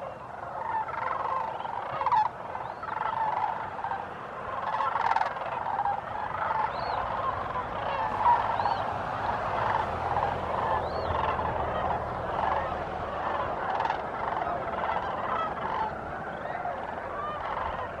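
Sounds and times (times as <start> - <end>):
cranes calling in chorus: 0.0 - 18.0
high arched crane calls: 0.0 - 18.0.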